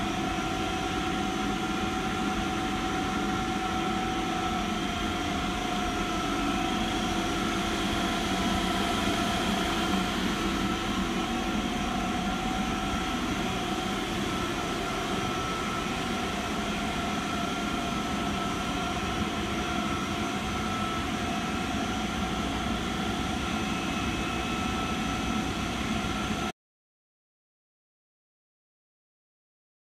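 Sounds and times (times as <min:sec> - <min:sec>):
air compressor running: 0:00.0 - 0:26.2
high-pitched whine: 0:00.0 - 0:26.5.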